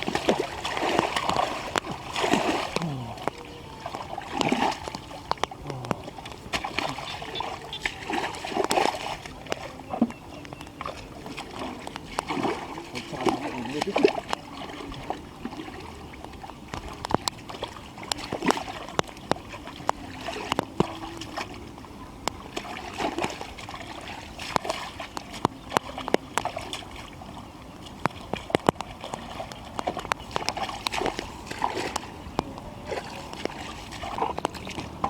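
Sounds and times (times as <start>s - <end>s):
pond water splashing: 0.0s - 35.0s
water dripping: 0.0s - 35.0s.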